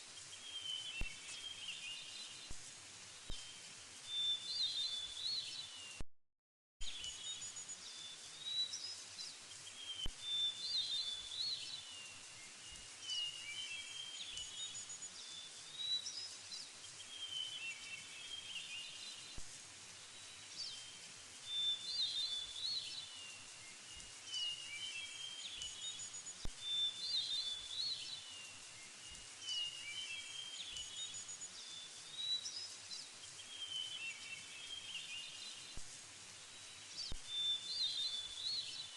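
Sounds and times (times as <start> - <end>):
songbirds singing: 0.0 - 6.0, 6.8 - 38.9
steady background hiss: 0.0 - 6.0, 6.8 - 38.9.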